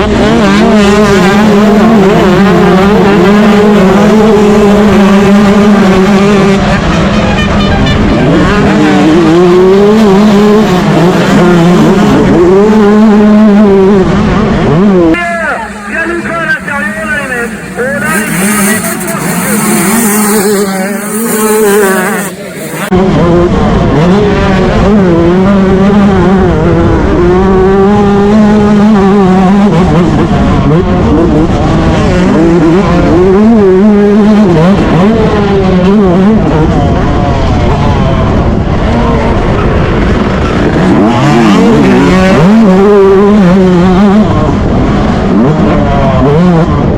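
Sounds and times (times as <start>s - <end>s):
motocross engine racing: 0.0s - 46.9s.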